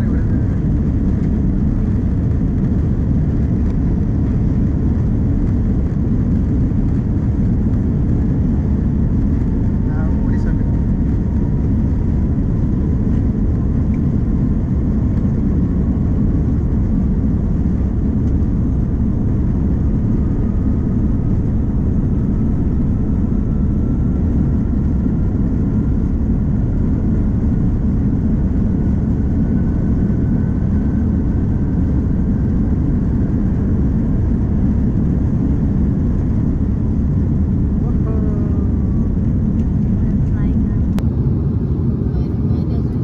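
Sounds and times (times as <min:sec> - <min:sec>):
vehicle rumbling in motion: 0:00.0 - 0:43.0.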